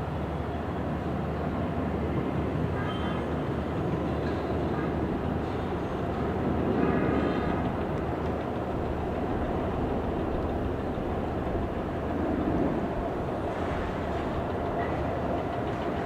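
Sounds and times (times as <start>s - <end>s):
airliner jet engine landing: 0.0s - 16.0s.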